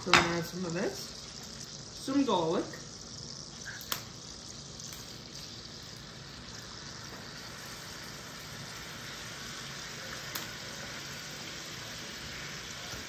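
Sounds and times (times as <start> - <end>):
butter and garlic sizzling in pan: 0.0 - 13.0.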